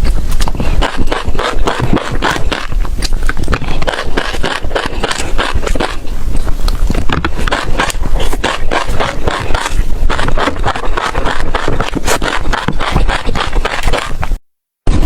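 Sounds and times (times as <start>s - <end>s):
chewing crunchy seeds: 0.0s - 14.4s.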